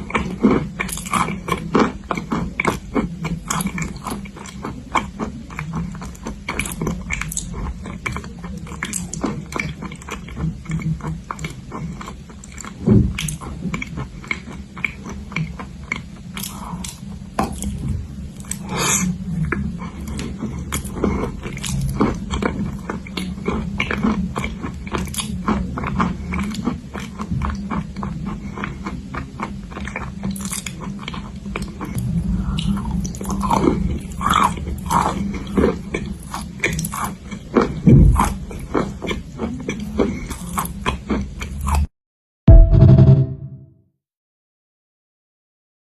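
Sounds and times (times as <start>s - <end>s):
crunching and chewing: 0.0s - 41.9s.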